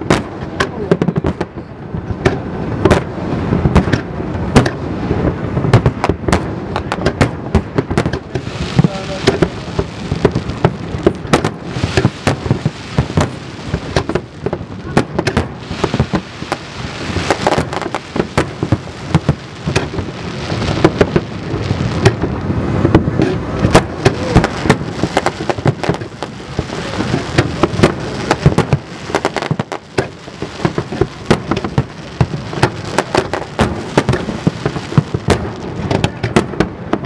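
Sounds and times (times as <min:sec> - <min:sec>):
dense fireworks crackle: 0:00.0 - 0:37.0
firework bangs: 0:00.0 - 0:37.0.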